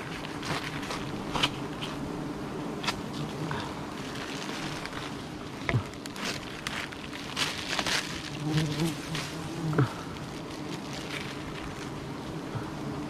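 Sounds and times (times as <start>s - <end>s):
bee buzzing close past: 0.0s - 13.0s
bees buzzing: 0.0s - 13.0s
crackling and rustling: 0.0s - 13.0s.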